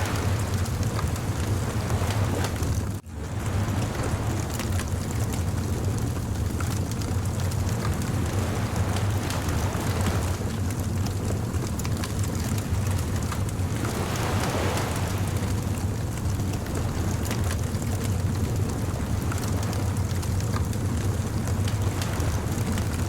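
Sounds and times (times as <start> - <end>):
bonfire crackling and popping: 0.0 - 23.0
surf rumbling: 0.0 - 23.0
wave washing in: 0.0 - 23.0.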